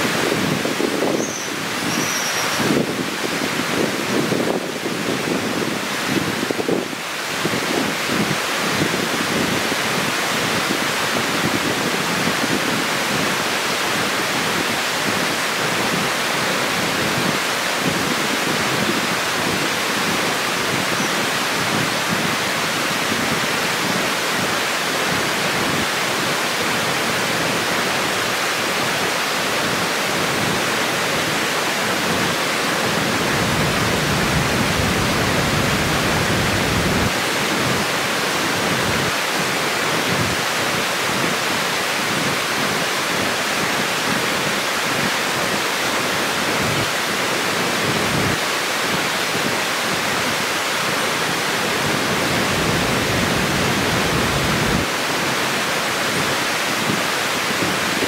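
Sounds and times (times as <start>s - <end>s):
water rushing over a weir: 0.0s - 58.0s.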